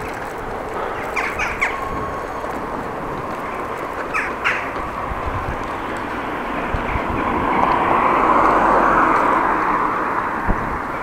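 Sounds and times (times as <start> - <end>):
vehicle passing on road: 0.0 - 11.0.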